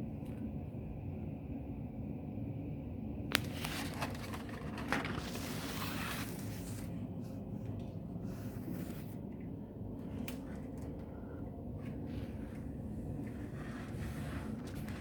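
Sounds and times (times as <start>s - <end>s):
low rumble of snowstorm: 0.0s - 15.0s.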